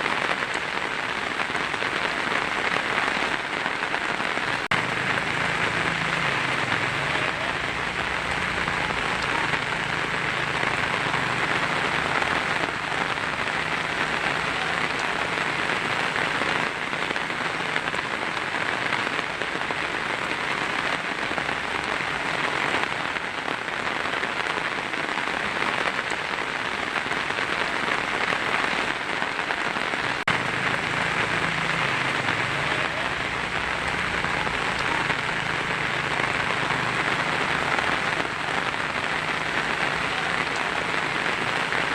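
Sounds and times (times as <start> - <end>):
heavy rain on a tin roof: 0.0 - 41.9.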